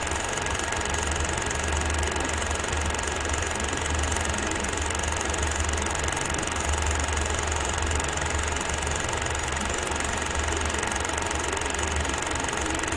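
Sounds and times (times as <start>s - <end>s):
film projector whirring: 0.0s - 12.9s.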